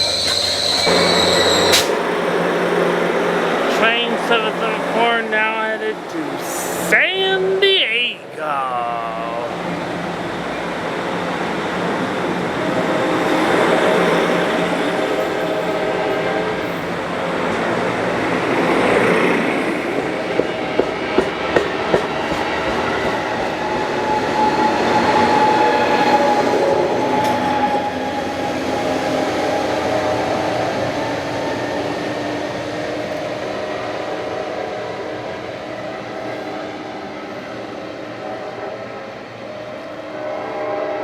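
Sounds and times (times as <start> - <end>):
train rolling on rails: 0.0 - 41.0.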